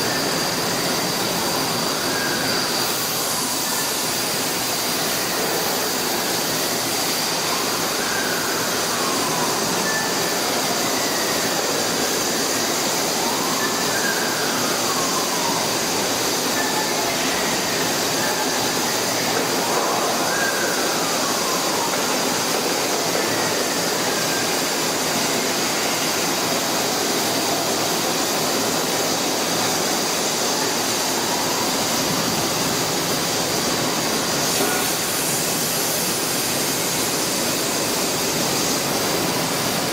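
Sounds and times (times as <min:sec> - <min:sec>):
cutting table hiss: 0:00.0 - 0:39.9.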